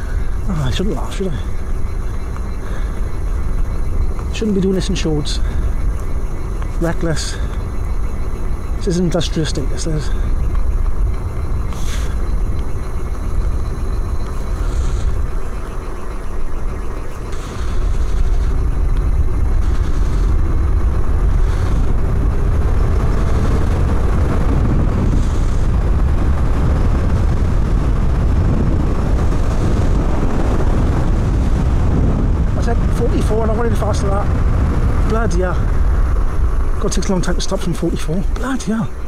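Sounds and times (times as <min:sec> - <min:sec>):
wind and road rush: 0:00.0 - 0:39.0.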